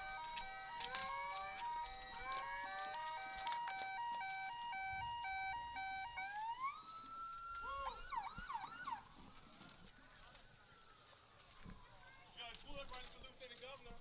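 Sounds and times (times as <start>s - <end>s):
police siren: 0.0s - 12.6s.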